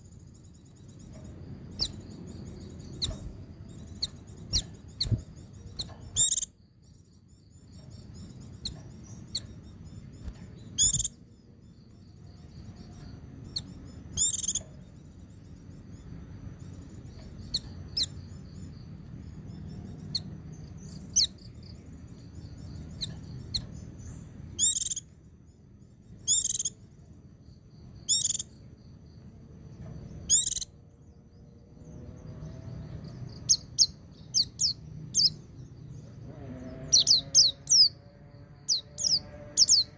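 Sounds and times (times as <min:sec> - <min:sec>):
sharp loud bird calls: 0:00.0 - 0:27.0, 0:27.7 - 0:28.8, 0:30.1 - 0:39.9
high twittering bird song: 0:00.0 - 0:39.9
low background rumble: 0:00.0 - 0:39.9.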